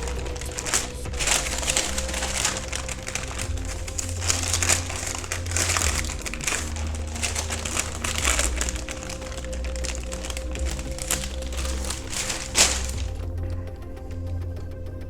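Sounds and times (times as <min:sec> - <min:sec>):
wrapping sheet crinkling: 0:00.0 - 0:13.6
background music with bass notes: 0:00.0 - 0:15.0.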